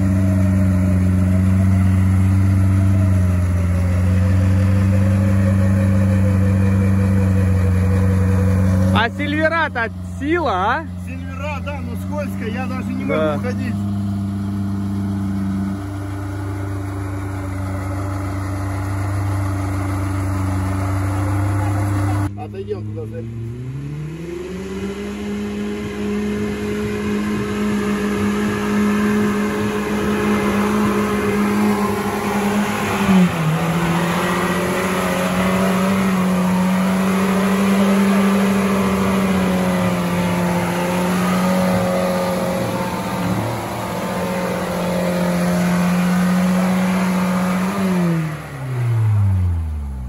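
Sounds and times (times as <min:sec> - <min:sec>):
off-road engine revving: 0:00.0 - 0:50.0.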